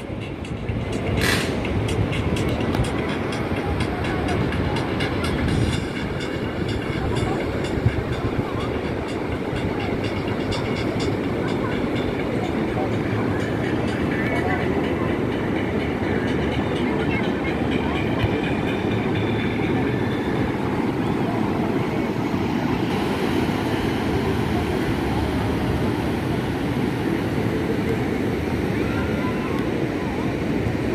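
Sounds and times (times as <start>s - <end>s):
faint distant voices: 0.0s - 30.9s.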